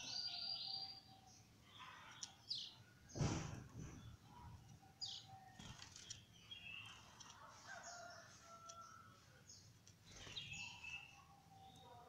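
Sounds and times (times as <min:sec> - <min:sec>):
canaries chirping: 0:00.0 - 0:03.3, 0:04.0 - 0:12.0.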